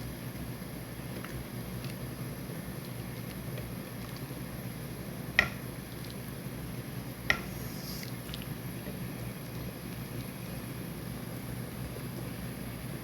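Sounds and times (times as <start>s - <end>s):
pot boiling on stove: 0.0s - 13.0s.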